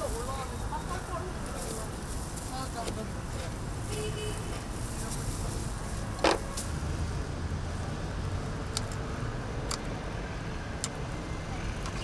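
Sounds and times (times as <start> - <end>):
low rumble of street traffic: 0.0 - 12.0.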